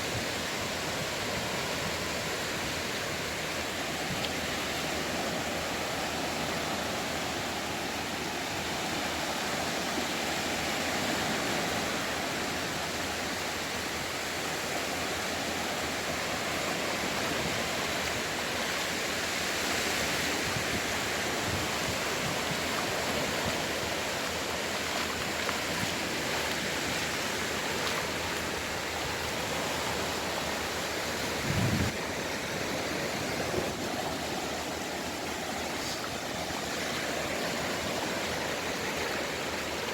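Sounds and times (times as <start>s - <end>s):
waves washing ashore: 0.0s - 39.9s.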